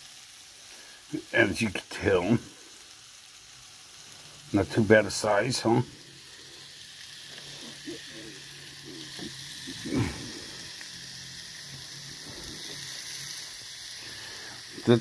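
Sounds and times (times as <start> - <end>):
patty sizzling on electric grill: 0.0 - 15.0.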